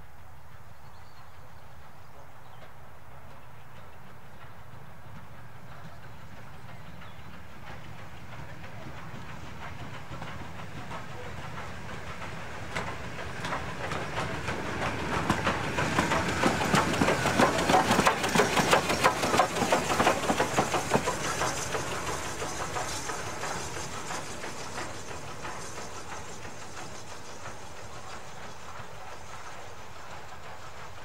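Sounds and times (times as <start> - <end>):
train wheels clicking over rail joints: 2.5 - 31.0
steam hissing: 2.9 - 31.0.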